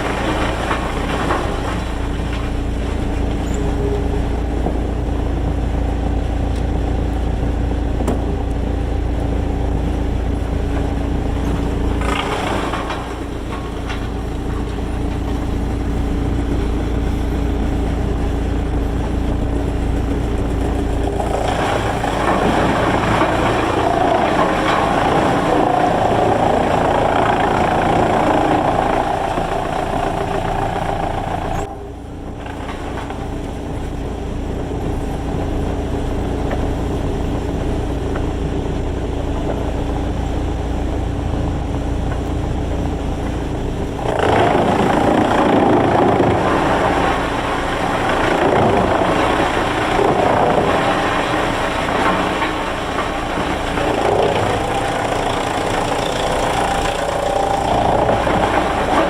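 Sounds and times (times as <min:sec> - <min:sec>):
heavy machinery engine running: 0:00.0 - 0:59.0.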